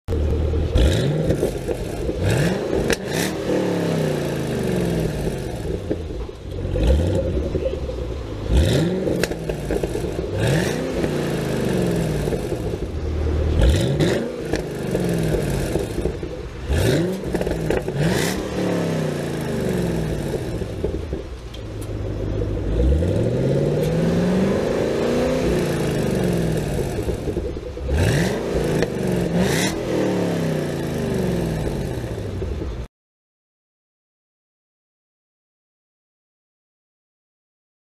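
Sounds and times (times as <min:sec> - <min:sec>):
car engine revving: 0:00.1 - 0:32.9
exhaust cracks: 0:00.1 - 0:32.9.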